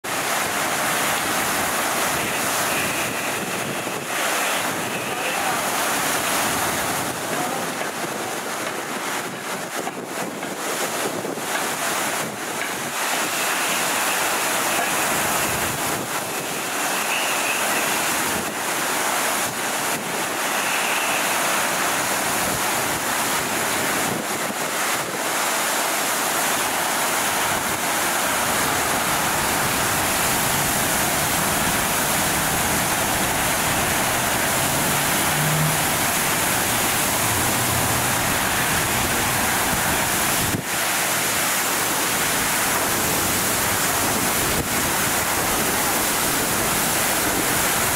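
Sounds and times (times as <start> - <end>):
water gushing from hydrant: 0.0 - 47.9.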